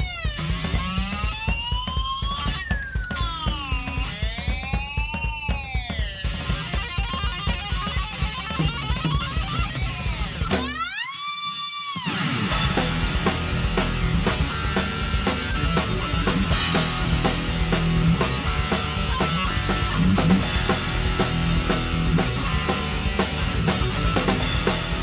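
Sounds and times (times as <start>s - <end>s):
bass guitar: 0.0s - 5.2s, 5.9s - 11.0s, 12.1s - 25.0s
drum kit beat: 0.0s - 11.1s, 12.5s - 25.0s
electric guitar: 0.0s - 25.0s.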